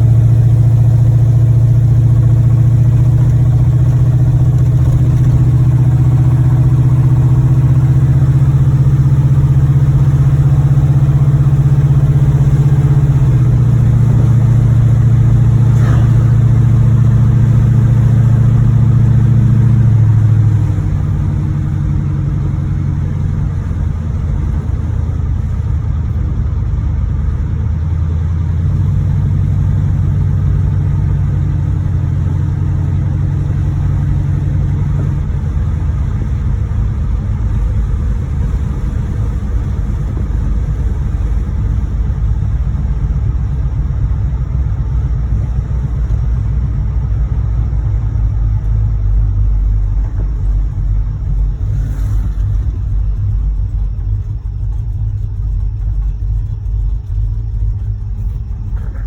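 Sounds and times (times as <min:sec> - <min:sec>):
car engine knocking: 0:00.0 - 0:59.0.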